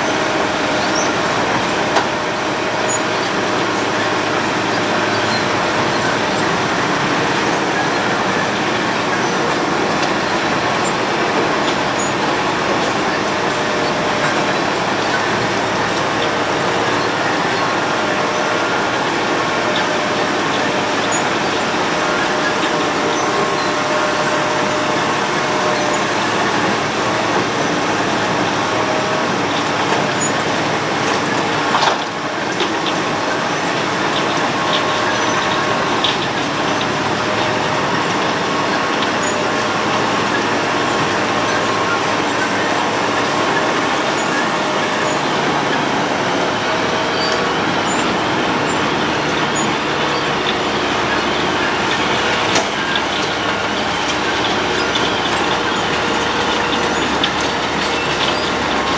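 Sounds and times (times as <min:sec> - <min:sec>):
road planer grinding: 0:00.0 - 0:58.9.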